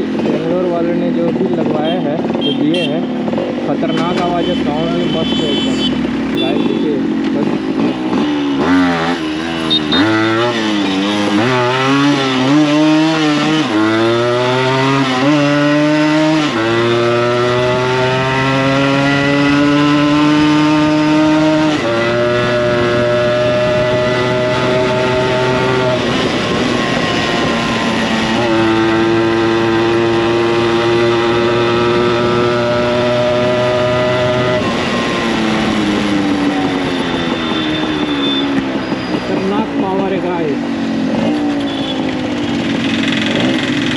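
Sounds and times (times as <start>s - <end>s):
two-stroke motorcycle revving: 0.0s - 43.9s.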